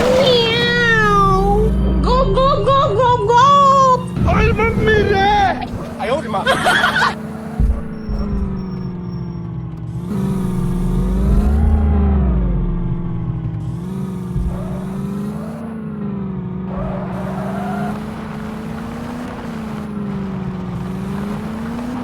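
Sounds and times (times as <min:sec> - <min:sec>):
tractor engine running under load: 0:00.0 - 0:22.0.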